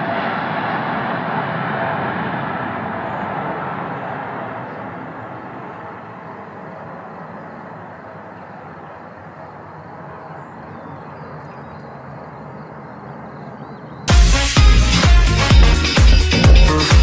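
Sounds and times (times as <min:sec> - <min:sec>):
jet engines at takeoff: 0:00.0 - 0:14.1.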